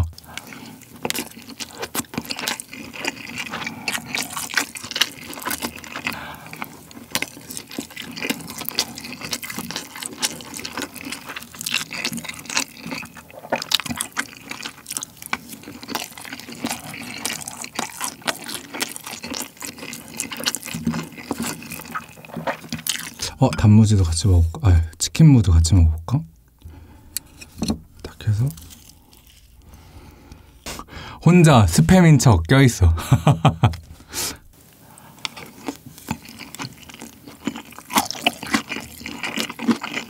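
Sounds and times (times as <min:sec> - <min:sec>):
wet chewing and mouth sounds: 0:00.0 - 0:23.7, 0:26.4 - 0:30.9, 0:33.6 - 0:40.0.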